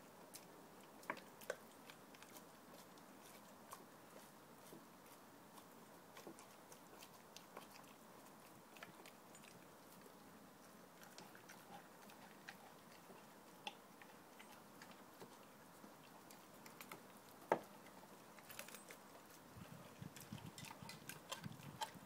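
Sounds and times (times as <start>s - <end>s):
dog chewing meat: 0.0s - 22.0s.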